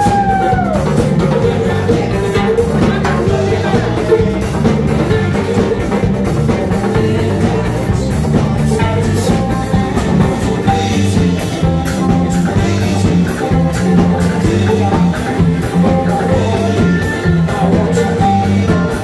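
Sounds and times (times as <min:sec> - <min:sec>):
drum kit beat: 0:00.0 - 0:19.0
guitars strummed: 0:00.0 - 0:19.0
man singing: 0:00.0 - 0:19.0.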